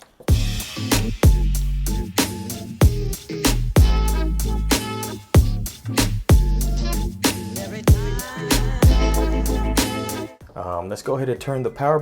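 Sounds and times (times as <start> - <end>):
electronic music with bass kick: 0.3 - 10.4.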